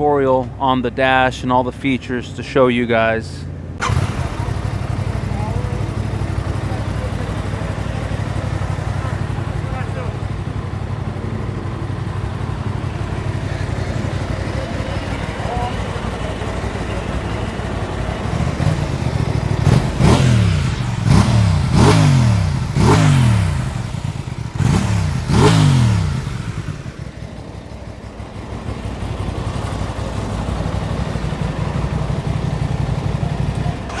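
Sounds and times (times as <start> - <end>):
motorcycle engine idling and revving: 3.4 - 34.0.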